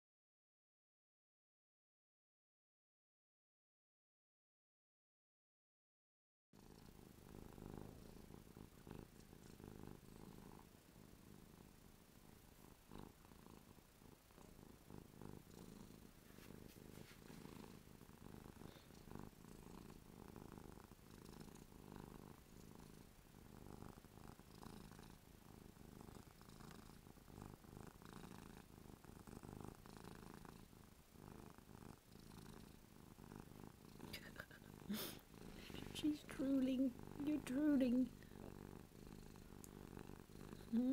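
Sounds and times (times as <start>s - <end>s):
cat purring: 6.6s - 40.9s.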